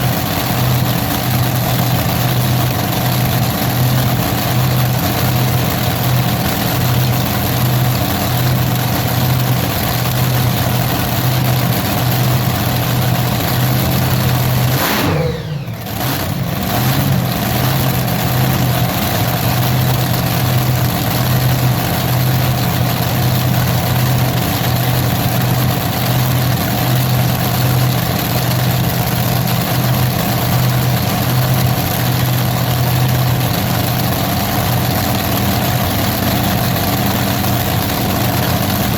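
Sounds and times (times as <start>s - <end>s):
large engine humming: 0.0s - 38.9s.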